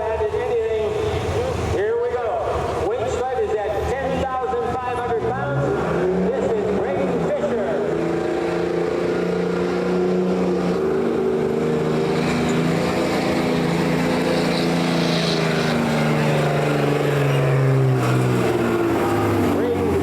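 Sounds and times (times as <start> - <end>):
truck engine at high revs: 0.0 - 20.0.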